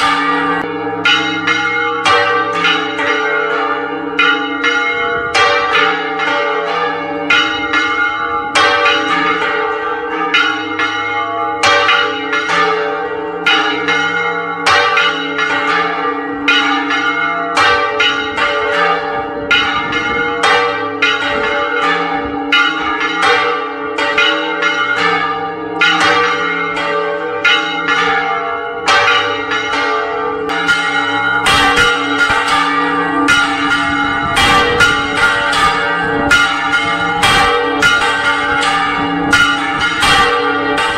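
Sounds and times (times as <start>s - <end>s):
church bells clanging: 0.0s - 40.9s.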